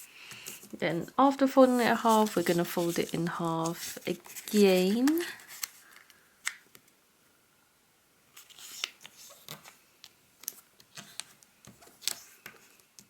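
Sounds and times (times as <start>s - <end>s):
paper folding and creasing: 0.0s - 6.6s, 8.3s - 13.0s.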